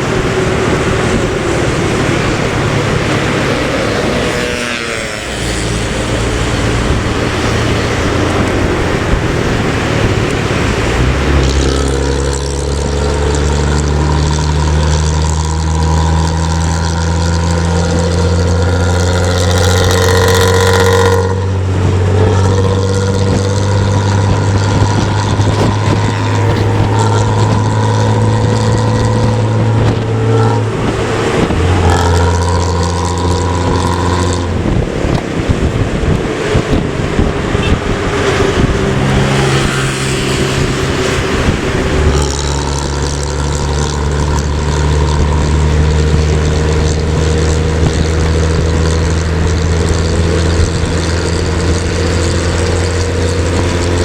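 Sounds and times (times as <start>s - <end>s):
diesel bus engine droning: 0.0s - 54.0s
road and wind noise: 0.0s - 54.0s.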